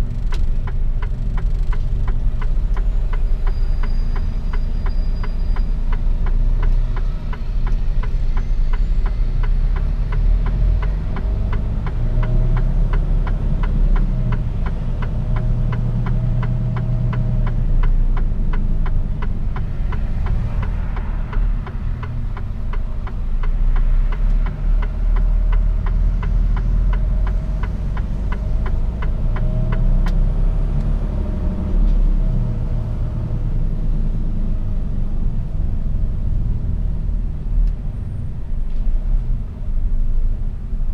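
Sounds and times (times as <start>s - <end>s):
truck diesel engine rumble: 0.0s - 40.9s.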